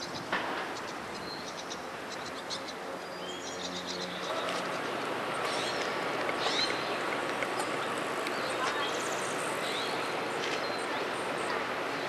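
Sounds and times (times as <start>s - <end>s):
outdoor background hiss: 0.0s - 12.0s
small birds chirping: 0.2s - 12.0s.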